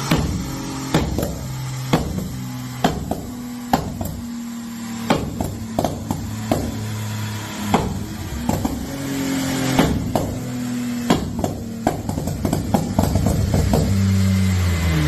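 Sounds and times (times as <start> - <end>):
sharp knocks: 0.0 - 4.4, 5.0 - 7.0, 7.6 - 14.1
car engine idling: 0.0 - 15.0.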